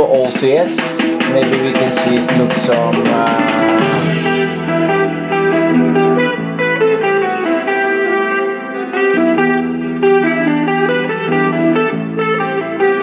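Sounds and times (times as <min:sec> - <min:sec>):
plucked-string instrumental music: 0:00.0 - 0:13.0.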